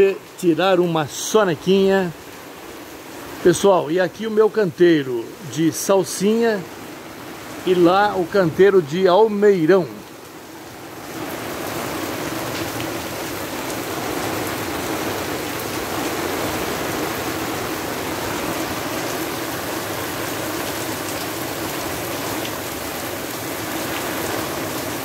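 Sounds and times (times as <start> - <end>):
heavy rain on gravel and paving: 0.0 - 25.0.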